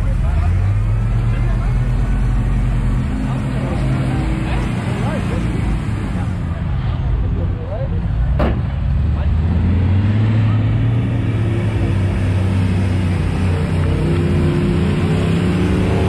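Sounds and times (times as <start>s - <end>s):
vehicle engine running at low revs: 0.0s - 16.0s.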